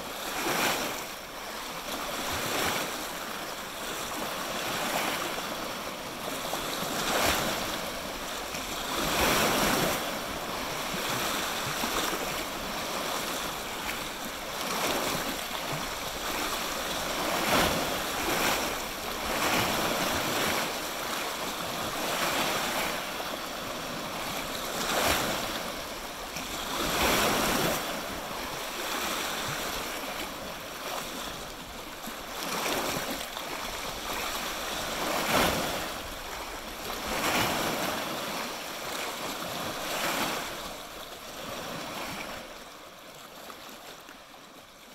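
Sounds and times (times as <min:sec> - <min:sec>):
waves washing onto shore: 0:00.0 - 0:44.9.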